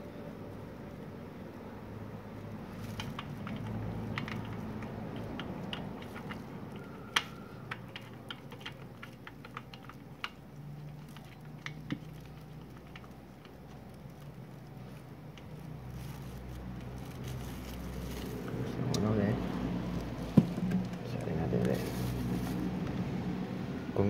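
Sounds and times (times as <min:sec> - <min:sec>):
oil dripping into plastic bottle: 0:02.7 - 0:23.0.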